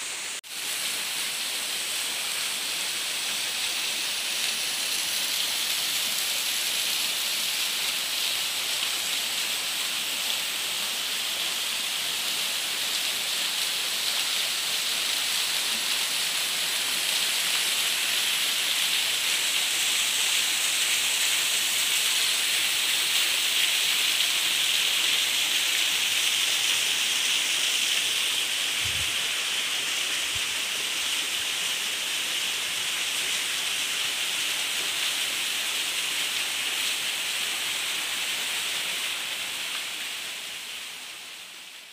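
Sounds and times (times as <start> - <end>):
waterfall pouring onto rocks: 0.3 - 41.5.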